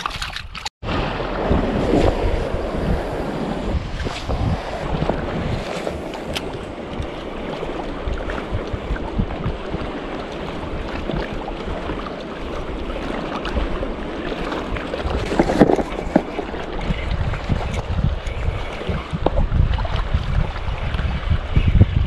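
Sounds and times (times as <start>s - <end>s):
shallow sea water washing: 0.0s - 21.7s
wind buffeting microphone: 0.8s - 22.0s.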